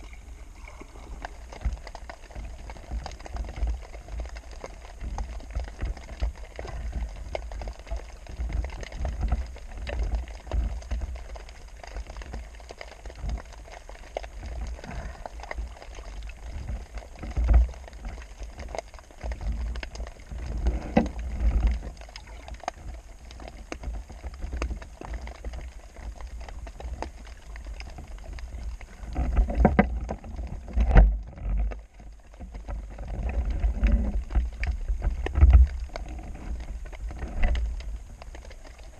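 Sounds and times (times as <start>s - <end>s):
water sloshing around microphone: 0.0s - 38.9s.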